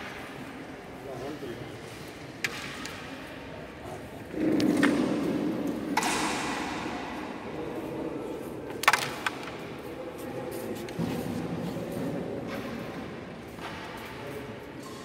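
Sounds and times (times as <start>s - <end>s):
murmur of voices: 0.0s - 15.0s.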